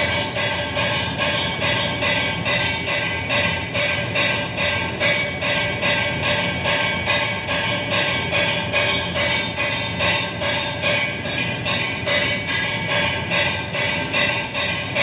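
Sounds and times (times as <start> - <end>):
banging with light ringing tone: 0.0 - 15.0.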